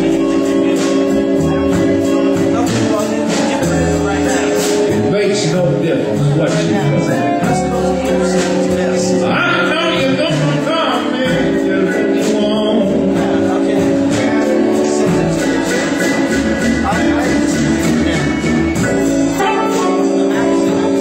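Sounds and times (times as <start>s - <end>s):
harmonica bent notes: 0.0s - 21.0s
live blues band: 0.0s - 21.0s.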